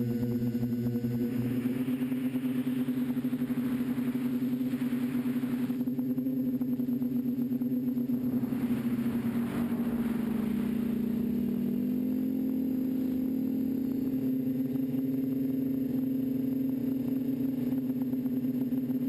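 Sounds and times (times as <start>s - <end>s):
quadcopter motors droning: 0.0s - 19.0s.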